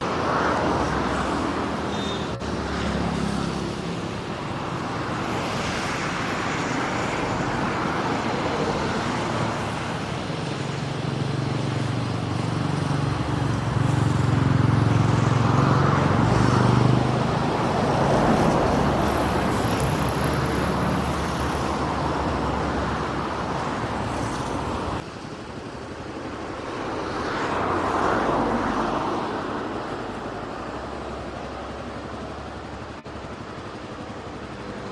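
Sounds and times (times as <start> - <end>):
jet engine roar: 0.0 - 34.9.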